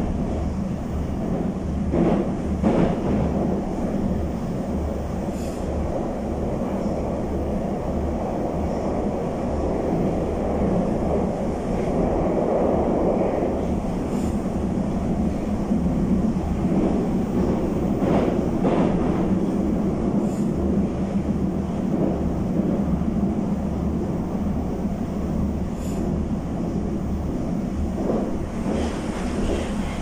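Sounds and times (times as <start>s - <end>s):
train wheels rumbling in tunnel: 0.0s - 30.0s.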